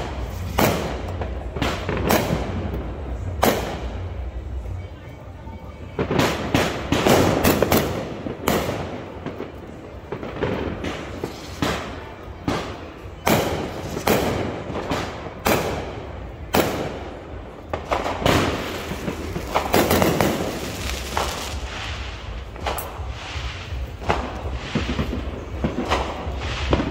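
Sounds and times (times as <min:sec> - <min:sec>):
fireworks bangs: 0:00.0 - 0:04.8, 0:05.7 - 0:26.9.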